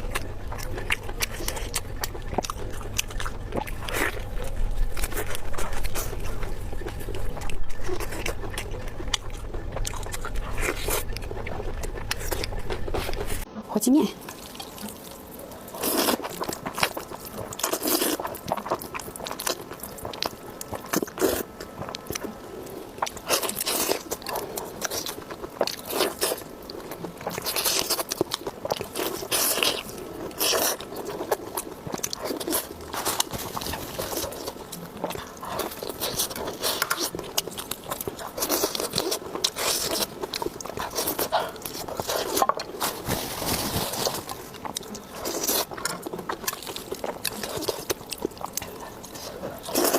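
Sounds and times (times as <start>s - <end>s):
crunchy bites and chewing: 0.0s - 13.5s, 14.2s - 49.9s.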